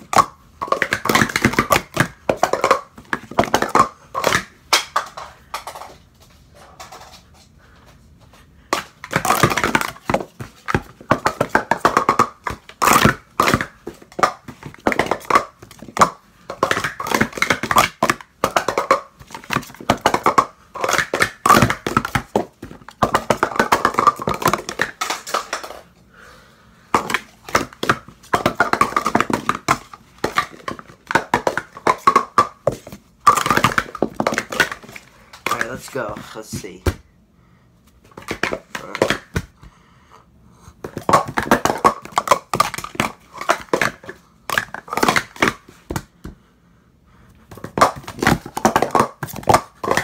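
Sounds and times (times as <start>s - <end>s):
plastic cups clattering: 0.0s - 7.5s, 8.7s - 25.9s, 26.9s - 37.0s, 38.0s - 39.5s, 40.8s - 46.0s, 47.5s - 50.0s.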